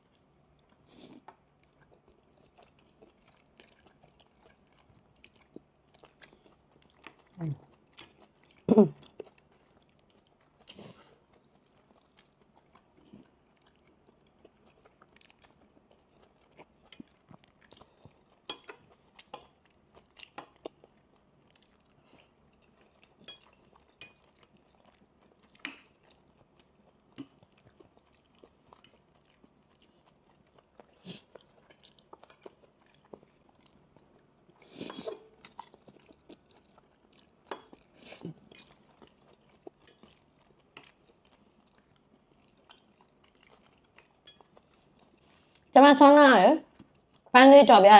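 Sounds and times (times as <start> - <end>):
people chewing noodles: 0.0 - 45.8, 46.6 - 47.3.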